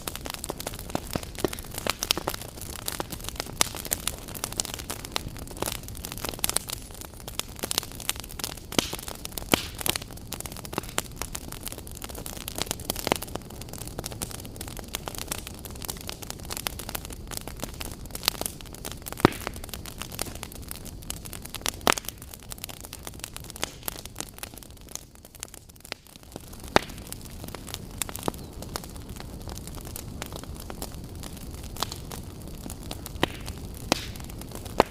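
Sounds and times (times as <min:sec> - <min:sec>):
fire snapping and popping: 0:00.0 - 0:34.9
wood fire crackling: 0:00.0 - 0:34.9.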